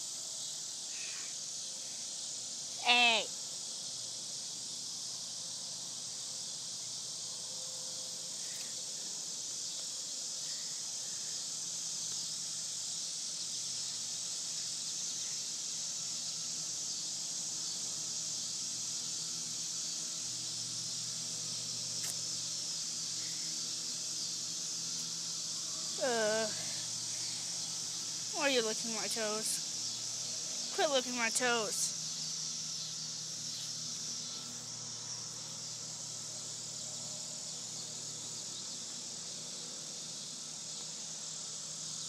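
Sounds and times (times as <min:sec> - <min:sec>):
insects chorus: 0:00.0 - 0:42.0.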